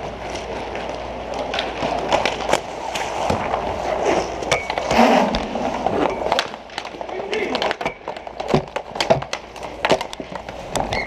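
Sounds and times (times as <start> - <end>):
hockey sticks and puck clacking: 0.0 - 11.0
skate wheels rolling and scraping: 0.0 - 11.0.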